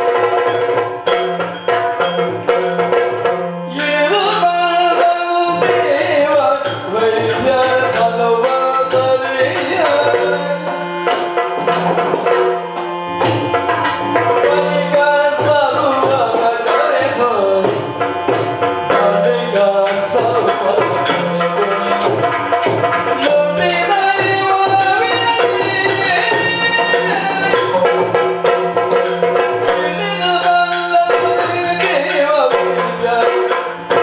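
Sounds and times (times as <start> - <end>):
drums playing quick rhythm: 0.0 - 34.0.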